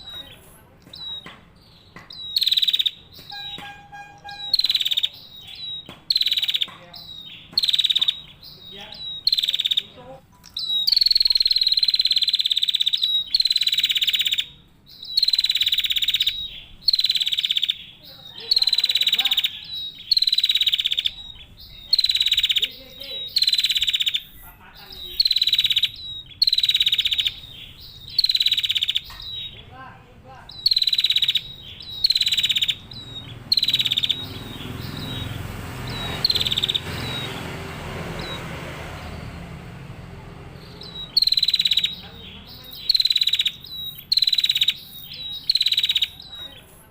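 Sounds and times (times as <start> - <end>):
bird giving buzzy calls: 0.0 - 46.9.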